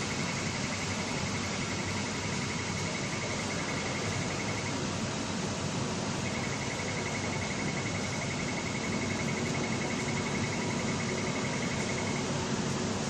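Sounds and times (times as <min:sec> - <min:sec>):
rapid high alarm beeping: 0:00.0 - 0:04.9, 0:06.2 - 0:12.4
steady machine hum: 0:00.0 - 0:13.0.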